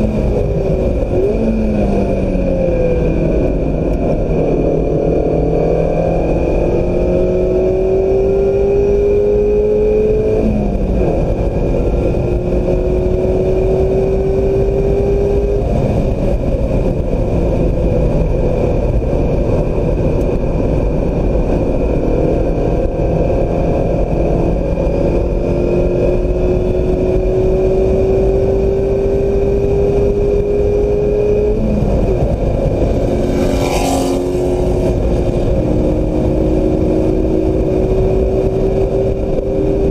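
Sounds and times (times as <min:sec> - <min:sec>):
car engine revving through gears: 0:00.0 - 0:39.9
wind and road noise rumble: 0:00.0 - 0:39.9.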